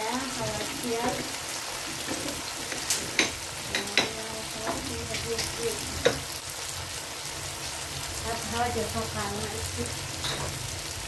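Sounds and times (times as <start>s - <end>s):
sauce sizzling in frying pan: 0.0s - 11.0s.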